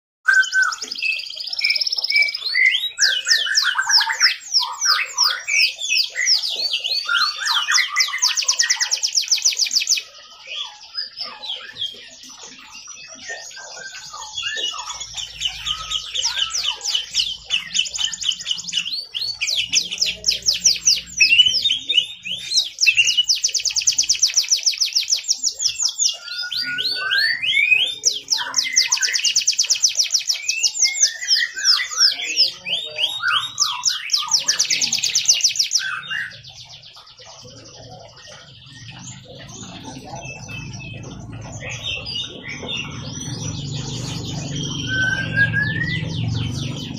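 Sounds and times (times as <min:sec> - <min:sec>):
canary singing trills: 0:00.2 - 0:46.9.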